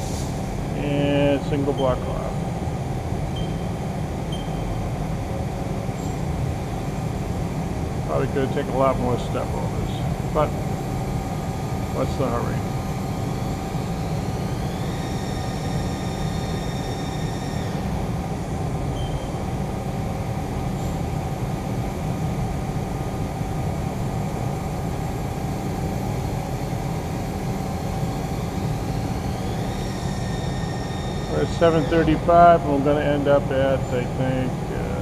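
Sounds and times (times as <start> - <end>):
high machine whine: 0.0 - 35.0
lathe running noise: 4.9 - 35.0.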